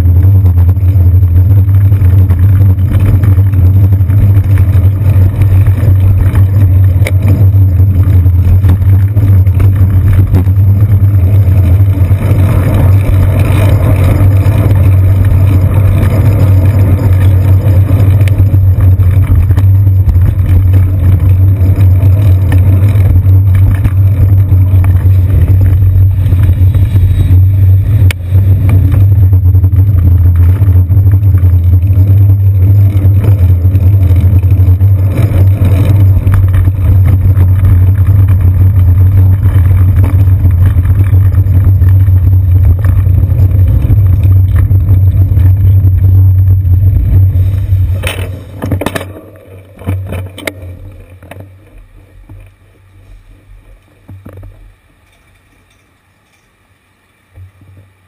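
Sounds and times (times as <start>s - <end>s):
wind and road rumble: 0.0s - 58.0s.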